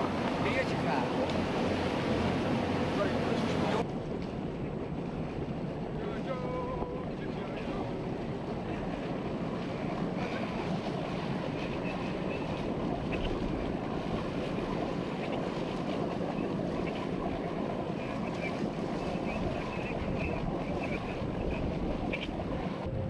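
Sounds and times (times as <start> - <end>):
water rushing past boat: 0.0 - 23.0
wind buffeting microphone: 0.0 - 23.0.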